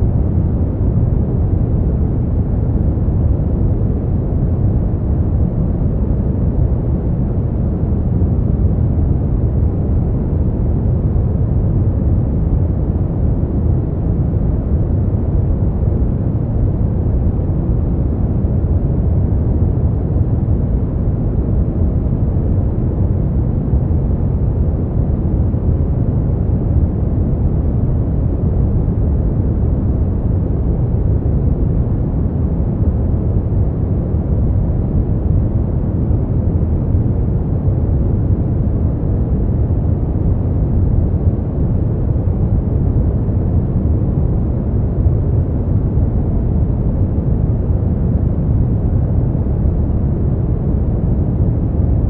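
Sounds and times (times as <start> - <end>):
brown noise rumble: 0.0 - 52.0.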